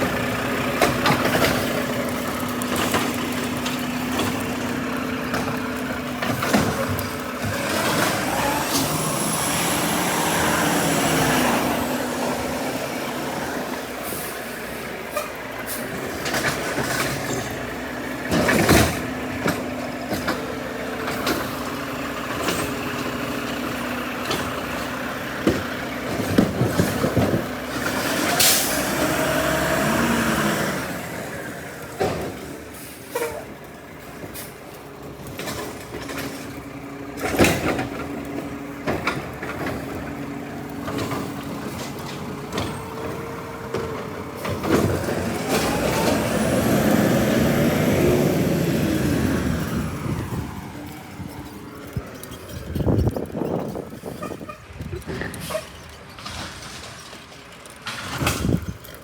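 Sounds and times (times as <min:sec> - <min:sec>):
heavy truck running: 0:00.0 - 0:59.0.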